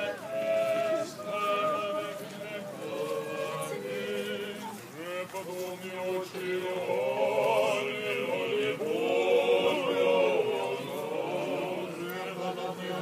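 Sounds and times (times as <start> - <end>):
men singing liturgical chant: 0.0 - 13.0.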